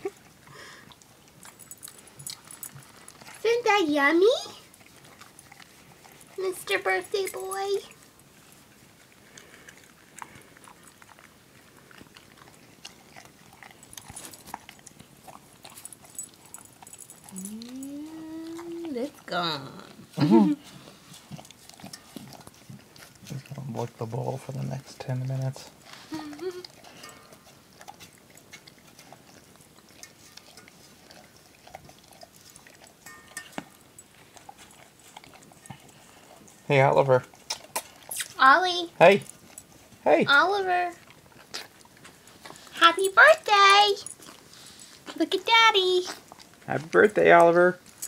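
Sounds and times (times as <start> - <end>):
dog chewing: 0.0 - 48.0.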